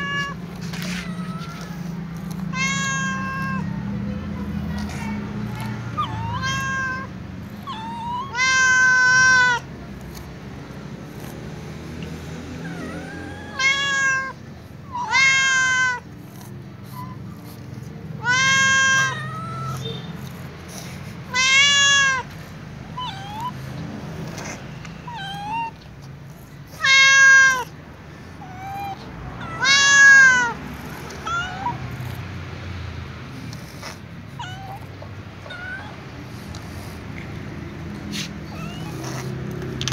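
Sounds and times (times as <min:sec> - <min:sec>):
cat meowing: 0:00.0 - 0:09.7, 0:12.6 - 0:22.4, 0:23.0 - 0:23.7, 0:24.3 - 0:32.1, 0:33.5 - 0:37.0, 0:38.1 - 0:39.9.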